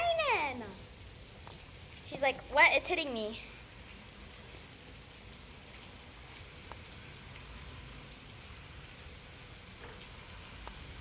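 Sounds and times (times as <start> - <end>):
rain falling steadily: 0.0 - 11.0
raindrop ticks: 0.0 - 11.0.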